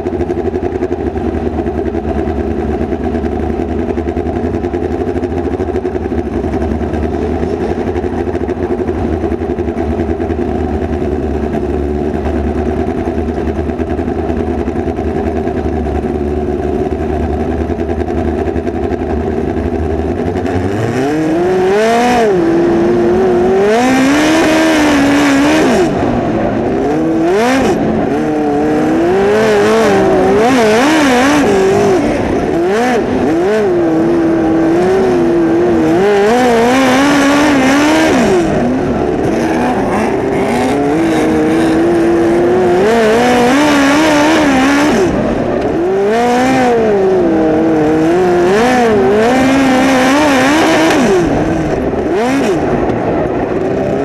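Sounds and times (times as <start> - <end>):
dirt-track noise: 0.0 - 54.0
race car engine revving: 2.4 - 54.0.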